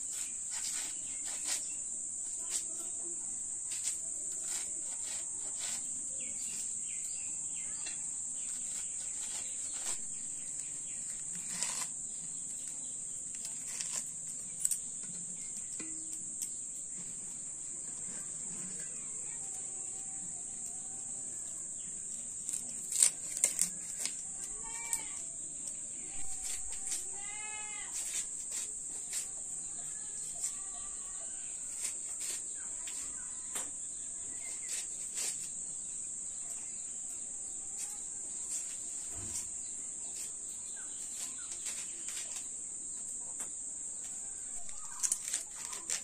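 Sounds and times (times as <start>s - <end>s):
crickets and insects droning: 0.0s - 46.0s.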